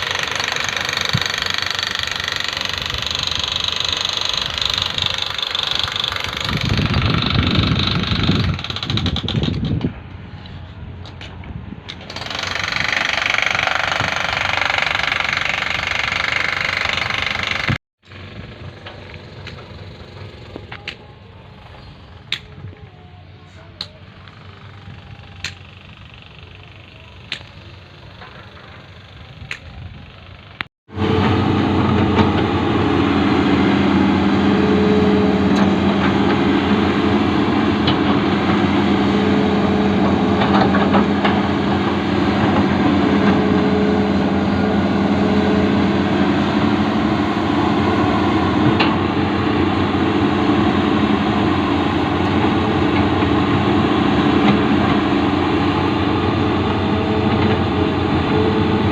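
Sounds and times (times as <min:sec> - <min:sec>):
excavator engine running: 0:00.0 - 0:58.9.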